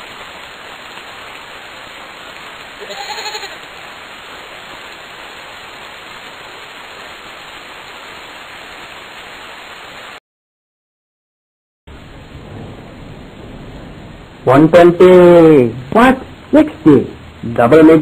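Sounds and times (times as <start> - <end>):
heavy rain: 0.0 - 10.2, 11.9 - 18.0.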